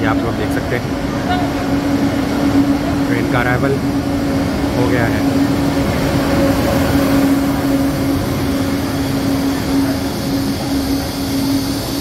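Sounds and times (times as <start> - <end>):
electric train machinery humming: 0.0 - 12.0.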